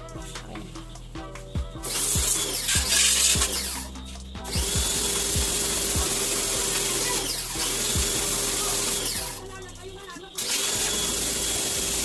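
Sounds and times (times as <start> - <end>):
pressure washer motor hum: 1.6 - 12.0.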